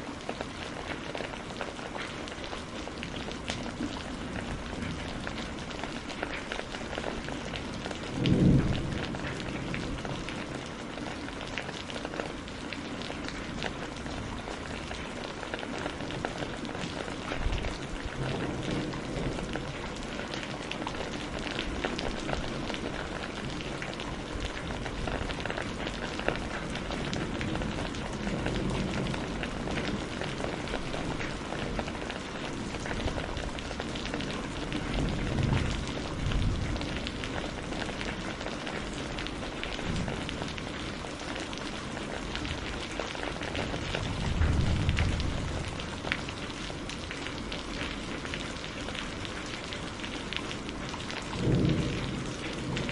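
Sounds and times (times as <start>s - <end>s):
rain pattering: 0.0s - 52.9s
low rumbles of thunder: 3.1s - 11.5s, 15.8s - 52.9s.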